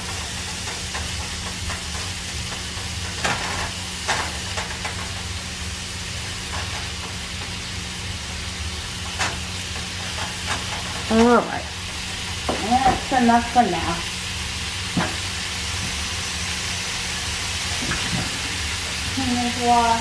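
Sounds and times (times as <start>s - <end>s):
steak sizzling in frying pan: 0.0s - 20.0s.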